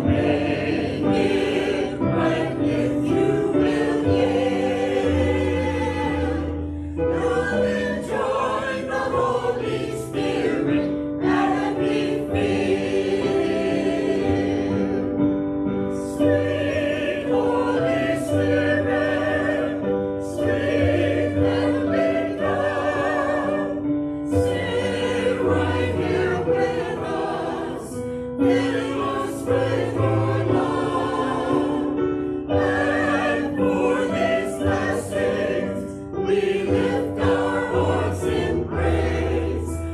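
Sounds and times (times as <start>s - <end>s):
choir singing worship song: 0.0s - 39.9s.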